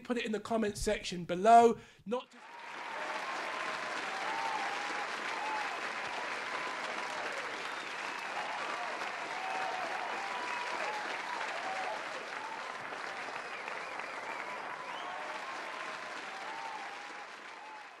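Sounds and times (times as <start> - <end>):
audience applauding: 2.4 - 18.0
audience cheering voices: 2.4 - 18.0.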